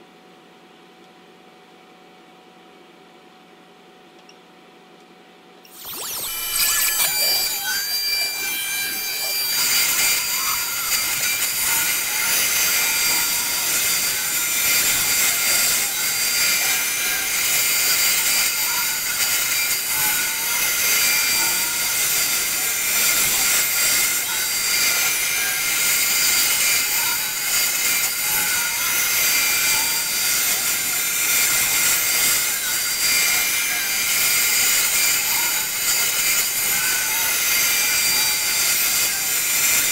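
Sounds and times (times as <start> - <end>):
router bit cutting wood: 5.7 - 39.9
router spindle whining: 5.7 - 39.9.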